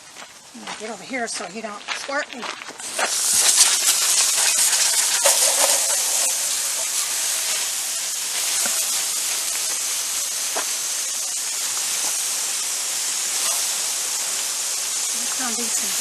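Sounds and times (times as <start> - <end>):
water spraying from hose: 1.6 - 16.0.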